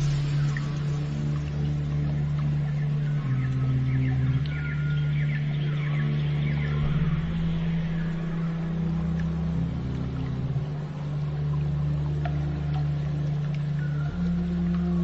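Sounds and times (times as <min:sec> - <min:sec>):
low sustained ambient notes: 0:00.0 - 0:15.0.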